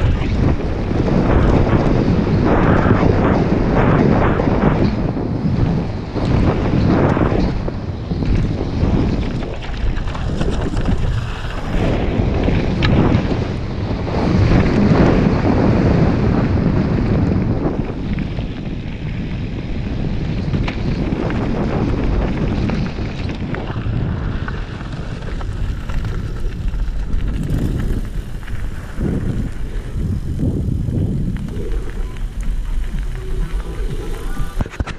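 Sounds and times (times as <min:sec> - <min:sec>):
bike rattling: 0:00.0 - 0:34.9
tyres rumbling on gravel: 0:00.0 - 0:34.9
wind buffeting microphone: 0:00.0 - 0:34.9.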